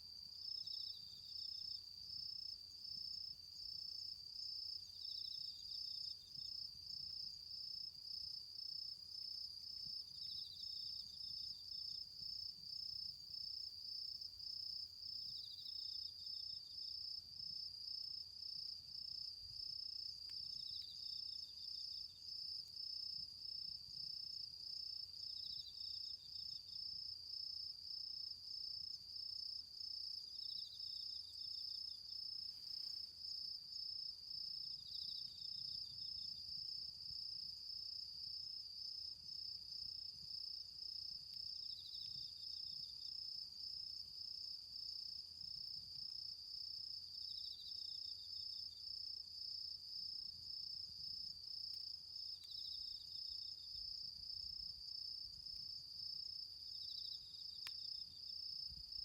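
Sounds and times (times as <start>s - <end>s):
insect chirps: 0.0s - 59.0s.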